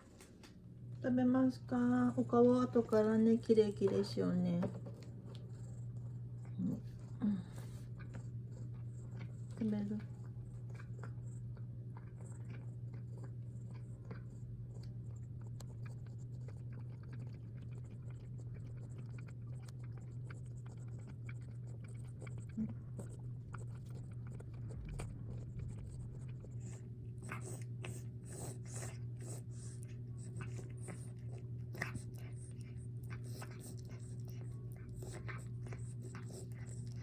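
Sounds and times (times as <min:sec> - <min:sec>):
steady low hum: 0:00.0 - 0:37.0
cat chewing food: 0:01.6 - 0:37.0.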